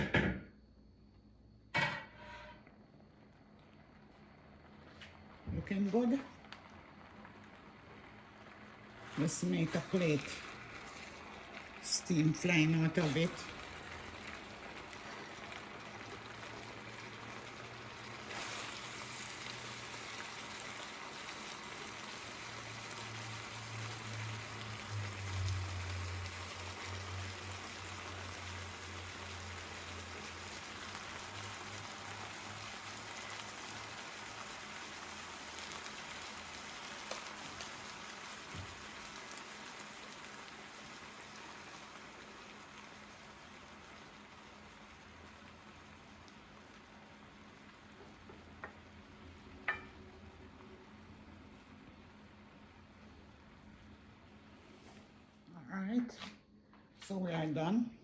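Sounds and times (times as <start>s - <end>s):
stir fry sizzling in pot: 1.8s - 55.2s.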